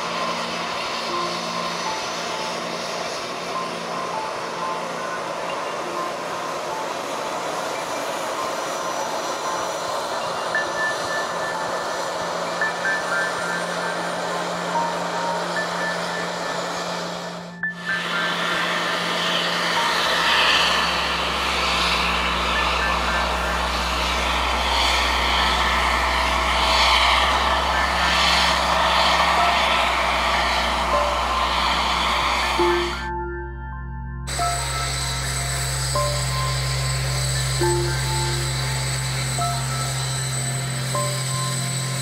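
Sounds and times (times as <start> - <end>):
jet engines idling whine: 0.0 - 42.0
low hum with hiss: 0.0 - 42.0.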